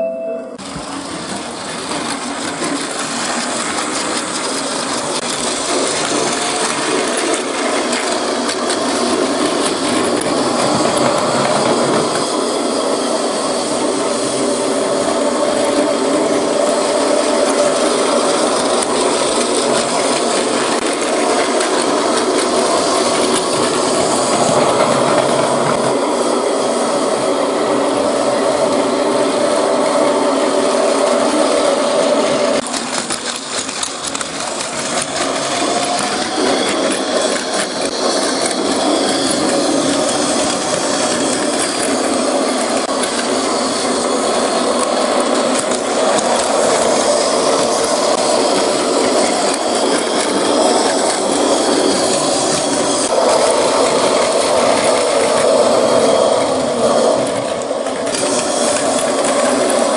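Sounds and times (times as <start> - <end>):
toy train wheels clattering: 0.7 - 27.0, 32.6 - 59.9
toy train motor whirring: 1.0 - 59.9.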